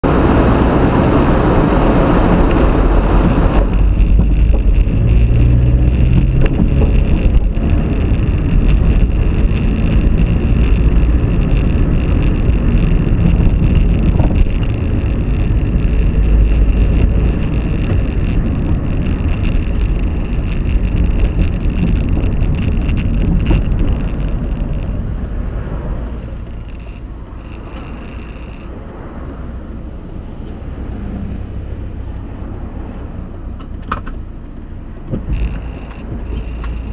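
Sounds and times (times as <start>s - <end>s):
vehicle engine and road rumble: 0.0s - 36.9s.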